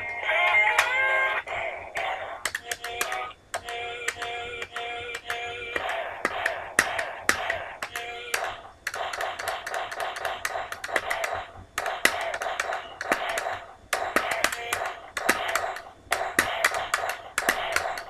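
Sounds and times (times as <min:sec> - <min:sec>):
sharp rhythmic taps: 0:02.0 - 0:18.0.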